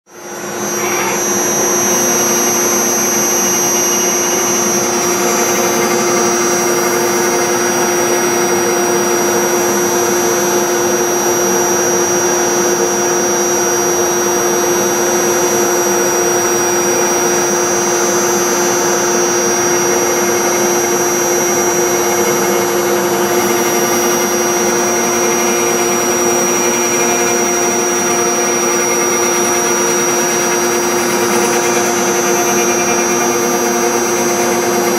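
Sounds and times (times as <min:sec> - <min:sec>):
router spindle high whine: 0:00.1 - 0:34.9.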